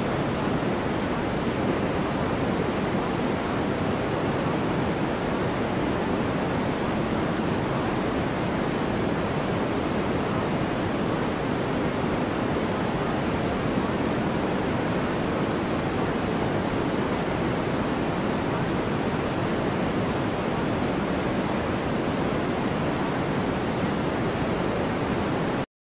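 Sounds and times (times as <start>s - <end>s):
steady pink noise: 0.0s - 25.7s.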